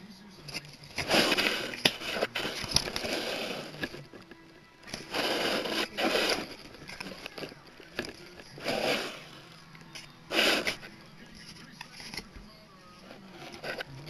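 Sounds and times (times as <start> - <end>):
cards rustling and scraping: 0.4 - 14.0.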